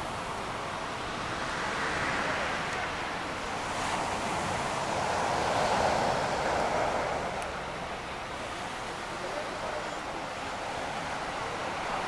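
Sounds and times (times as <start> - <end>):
surf washing up a beach: 0.0 - 12.0.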